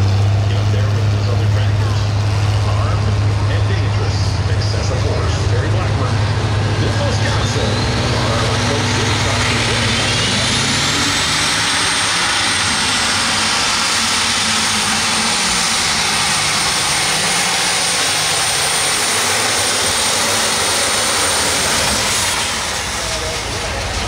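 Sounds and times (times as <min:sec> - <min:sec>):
tractor engine roaring: 0:00.0 - 0:24.0
turbo whine: 0:00.0 - 0:24.0.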